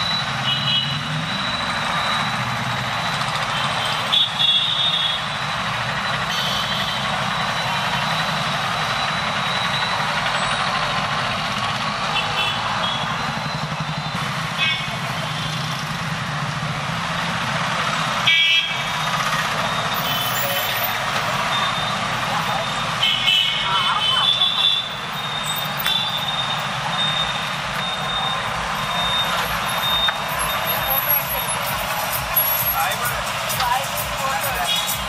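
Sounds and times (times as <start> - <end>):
vehicle engines passing: 0.0 - 35.0.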